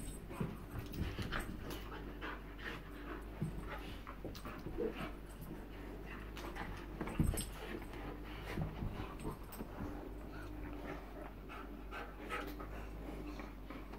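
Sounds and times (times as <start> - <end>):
dogs breathing: 0.0 - 13.9
dogs scuffling on carpet: 0.0 - 13.9.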